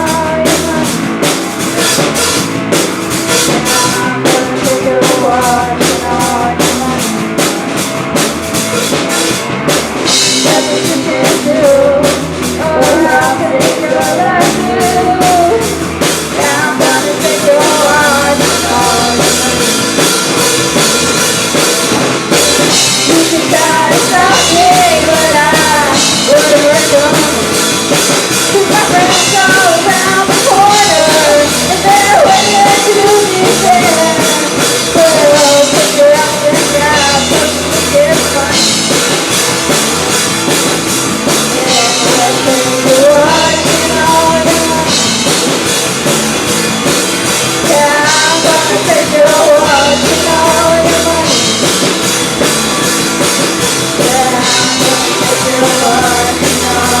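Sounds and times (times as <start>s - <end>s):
person singing: 0.0s - 2.4s, 3.2s - 8.2s, 10.0s - 40.4s, 41.2s - 46.0s, 47.4s - 57.0s
rock band playing live: 0.0s - 57.0s.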